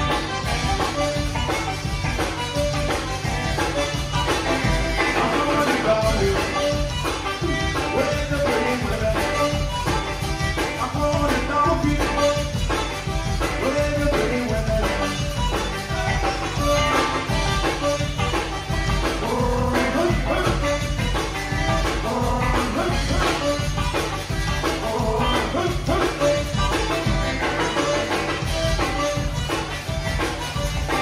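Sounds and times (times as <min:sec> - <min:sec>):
band playing live: 0:00.0 - 0:31.0
drum kit beat: 0:00.0 - 0:31.0
electric guitar: 0:00.0 - 0:31.0.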